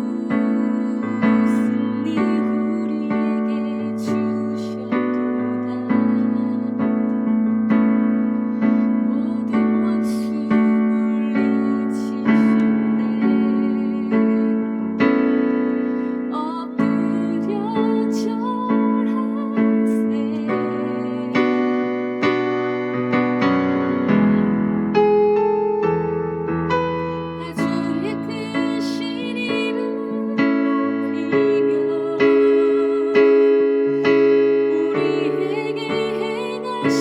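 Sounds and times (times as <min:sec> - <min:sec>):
slow keyboard chords: 0:00.0 - 0:37.0.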